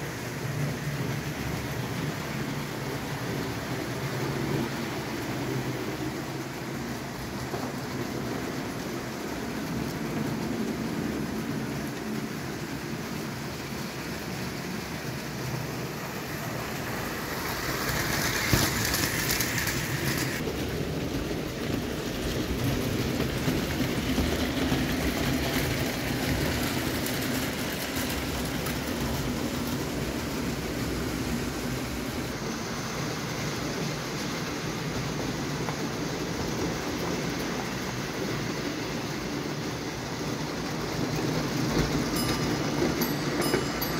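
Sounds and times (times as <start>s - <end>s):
hiss: 0.0s - 43.9s
model train wheels rattling: 0.0s - 43.9s.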